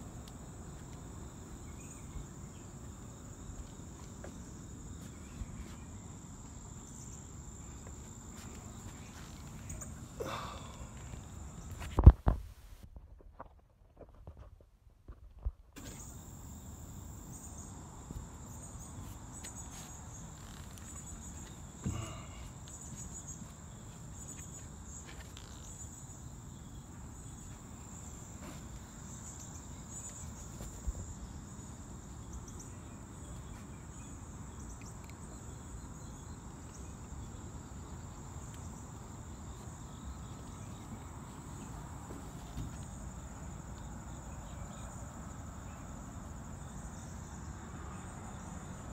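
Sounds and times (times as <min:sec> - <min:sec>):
insects chirring: 0:00.0 - 0:12.4, 0:15.8 - 0:48.9.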